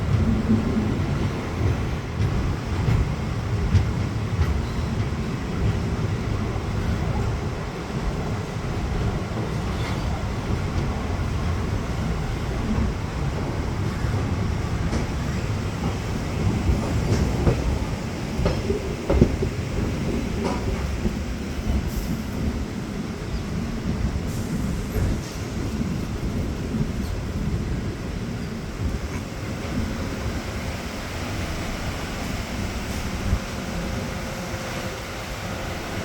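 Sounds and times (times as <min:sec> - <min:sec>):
train running rumble: 0:00.0 - 0:36.0
train wheels knocking and clattering: 0:00.0 - 0:36.0.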